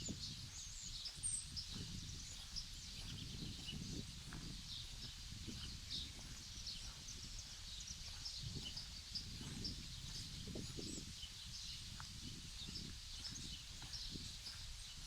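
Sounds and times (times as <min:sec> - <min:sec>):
footsteps on sand: 0:00.0 - 0:15.0
low wind rumble: 0:00.0 - 0:15.0.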